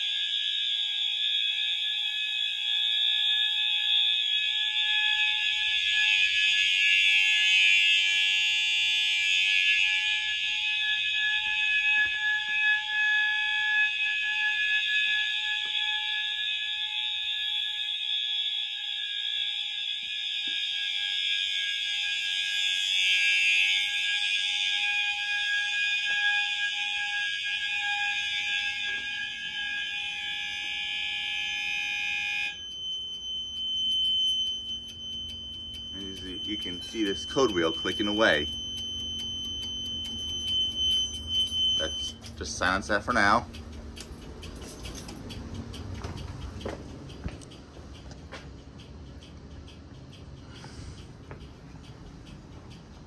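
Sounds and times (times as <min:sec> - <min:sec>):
fire alarm horns and sounders: 0:00.0 - 0:53.0
high steady alarm tone: 0:00.0 - 0:53.0.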